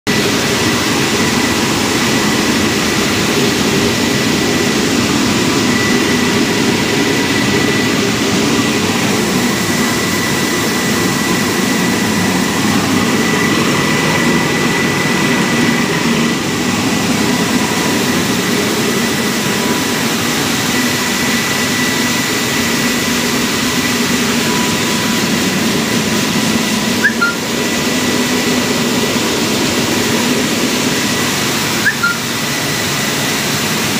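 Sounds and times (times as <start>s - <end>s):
milling machinery running: 0.1s - 33.9s.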